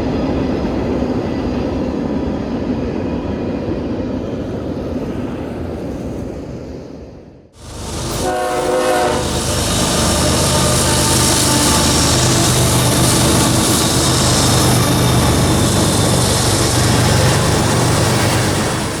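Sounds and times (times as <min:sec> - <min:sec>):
low locomotive engine hum: 0:00.0 - 0:19.0
rushing noise of train: 0:00.0 - 0:19.0.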